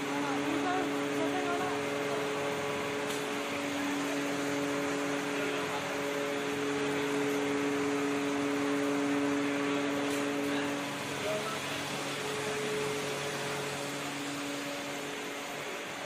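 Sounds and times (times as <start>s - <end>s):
ventilation fan running: 0.0s - 16.0s.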